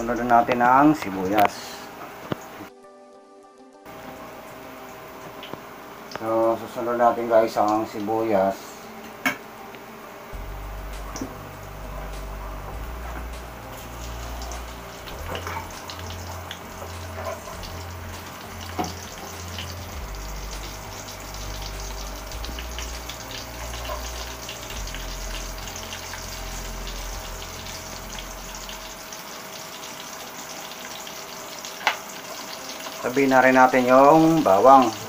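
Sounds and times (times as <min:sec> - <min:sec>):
onion sizzling in hot oil: 0:03.9 - 0:35.0.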